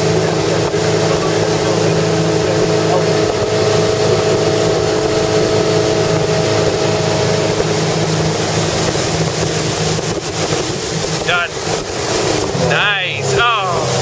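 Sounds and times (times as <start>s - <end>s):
boat engine running: 0.0s - 14.0s
rush of wind: 0.0s - 14.0s.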